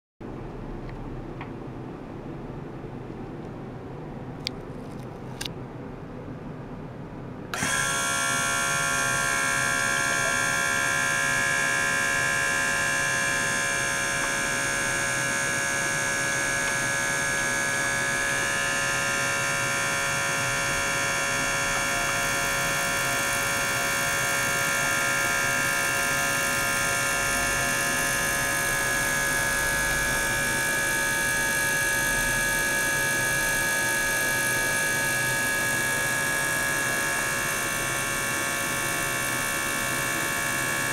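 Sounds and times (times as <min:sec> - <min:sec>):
pump motor whirring whine: 0:07.4 - 0:40.9.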